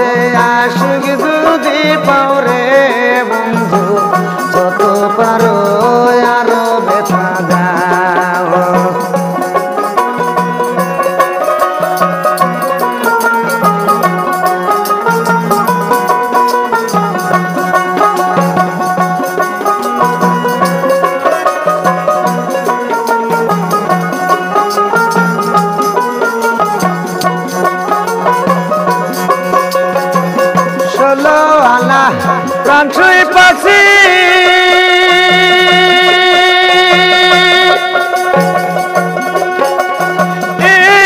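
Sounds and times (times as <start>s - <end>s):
hand drum beat: 0.0s - 41.0s
harmonium: 0.0s - 41.0s
plucked lute melody: 0.0s - 41.0s
small hand percussion: 0.0s - 41.0s.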